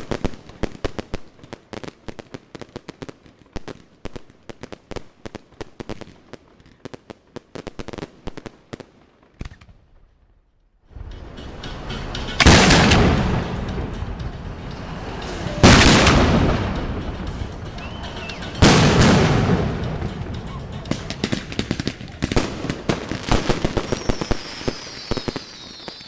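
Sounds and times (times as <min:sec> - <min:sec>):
fireworks cracking and banging: 0:00.0 - 0:26.0.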